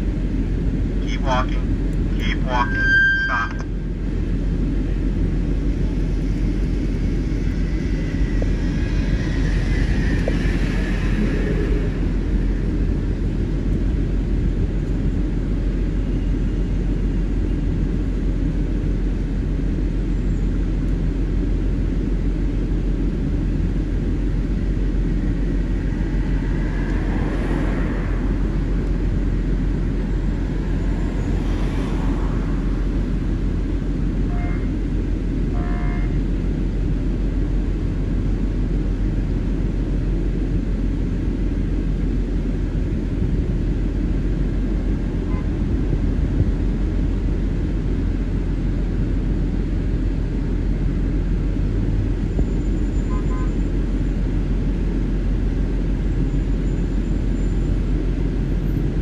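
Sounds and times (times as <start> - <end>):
low rumble of street traffic: 0.0 - 59.0
vehicles passing by: 0.0 - 59.0.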